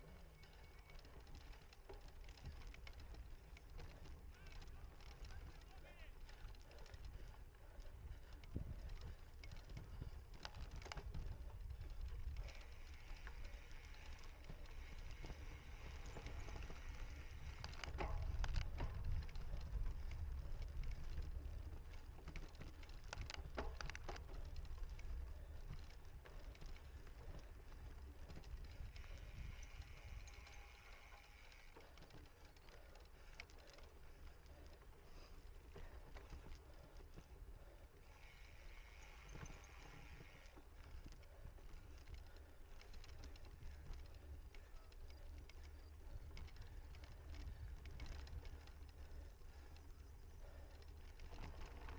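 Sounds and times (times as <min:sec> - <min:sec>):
bike rattling and clicking: 0:00.0 - 0:51.9
wind and ride noise rumble: 0:00.0 - 0:51.9.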